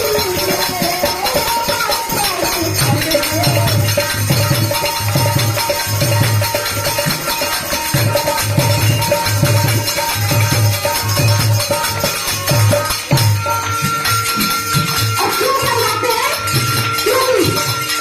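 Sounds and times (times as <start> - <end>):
hand drum beat: 0.0 - 18.0
shaken percussion: 0.0 - 18.0.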